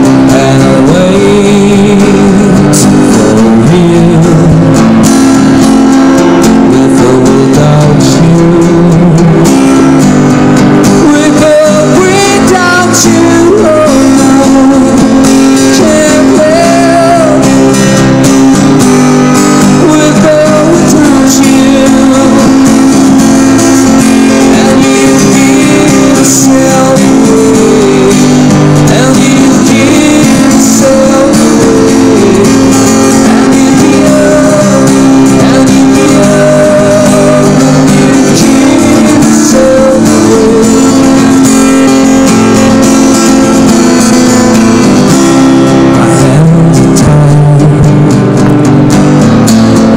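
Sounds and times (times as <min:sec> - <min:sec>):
man singing into a microphone: 0:00.0 - 0:48.4
acoustic guitar strumming: 0:00.0 - 0:49.9.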